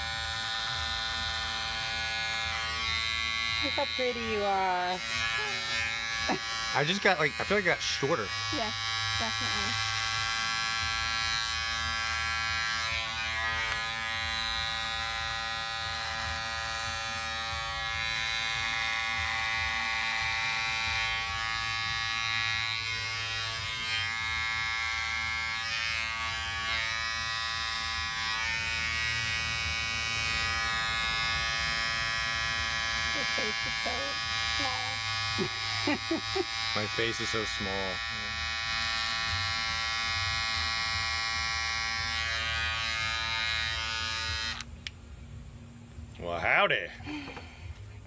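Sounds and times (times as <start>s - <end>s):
hair clipper buzzing: 0.0s - 45.0s.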